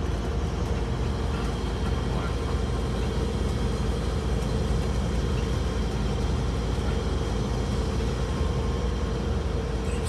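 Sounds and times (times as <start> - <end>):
bus engine droning: 0.0 - 10.0.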